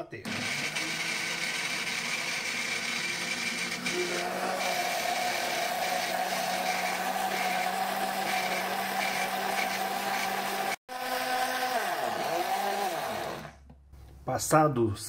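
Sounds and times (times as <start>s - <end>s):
blender motor running: 0.3s - 13.6s.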